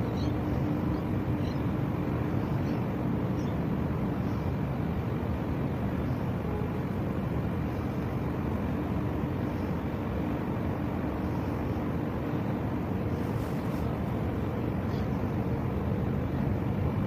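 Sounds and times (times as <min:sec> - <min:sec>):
faint hum: 0:00.0 - 0:17.0
ship engines rumbling: 0:00.0 - 0:17.0.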